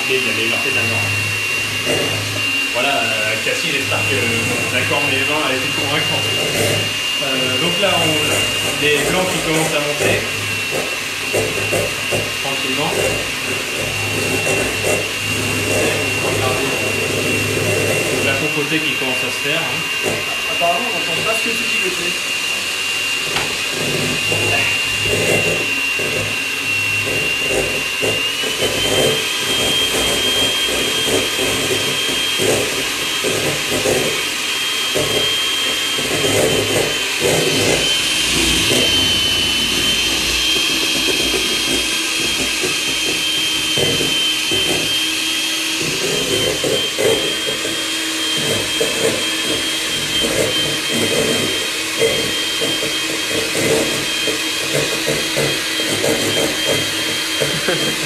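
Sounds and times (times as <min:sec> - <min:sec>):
electric mixer motor whine: 0:00.0 - 0:58.0.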